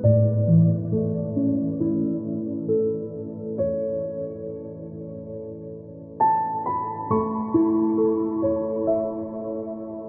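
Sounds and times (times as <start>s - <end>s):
soft new-age keyboard music: 0.0s - 10.0s.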